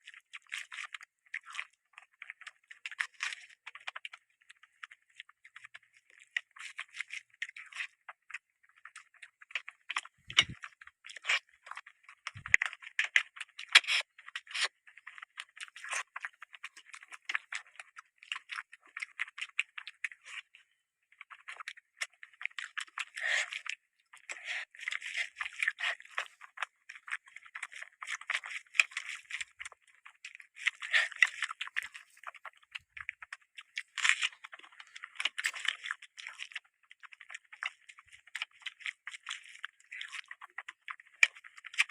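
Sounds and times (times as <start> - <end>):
chewing with mouth clicks: 0.0 - 41.9.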